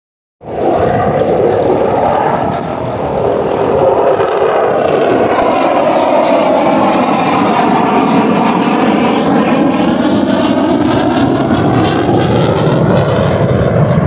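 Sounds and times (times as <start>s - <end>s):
fighter jet engine roar: 0.4s - 14.0s.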